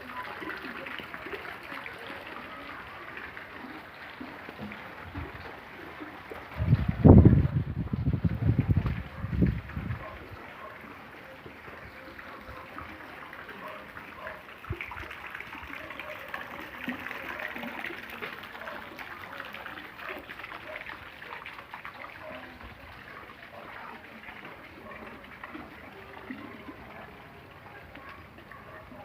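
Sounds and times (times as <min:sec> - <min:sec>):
rain patter: 0:00.0 - 0:29.0
water trickling: 0:00.0 - 0:29.0.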